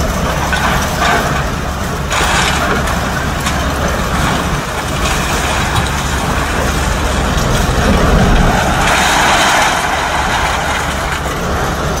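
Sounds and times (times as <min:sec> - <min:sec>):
machine engine rumble: 0:00.0 - 0:12.0
scrap metal rattling and crashing: 0:00.2 - 0:12.0.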